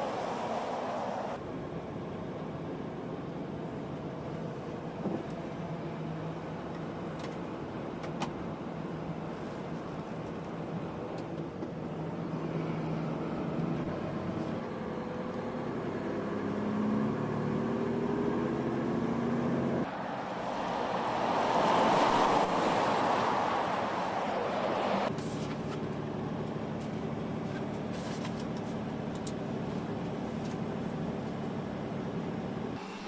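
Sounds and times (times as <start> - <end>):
heavy truck engine: 0.0 - 33.0
road and wind noise: 0.0 - 33.0.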